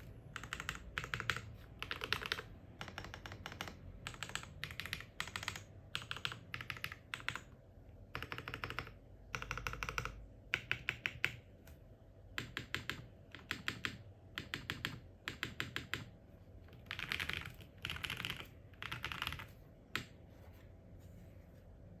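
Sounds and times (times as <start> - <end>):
fast typing on mechanical keyboard: 0.0 - 11.5, 12.3 - 20.1.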